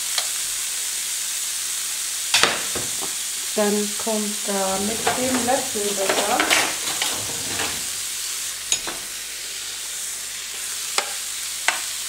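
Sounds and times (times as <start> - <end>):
sausage sizzling on a grill: 0.0 - 12.0.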